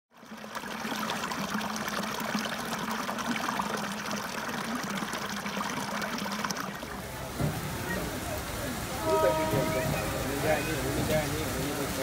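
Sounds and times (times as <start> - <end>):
stream trickling over rocks: 0.1 - 12.0.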